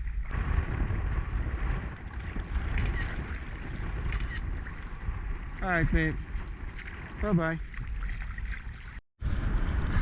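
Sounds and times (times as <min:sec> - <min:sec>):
water lapping against kayak: 0:00.0 - 0:09.0
wind on microphone: 0:00.0 - 0:10.0.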